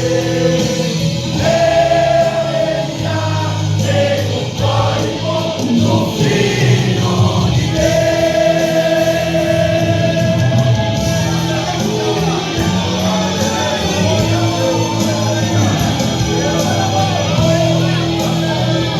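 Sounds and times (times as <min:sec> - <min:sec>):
worship song with choir: 0:00.0 - 0:18.9.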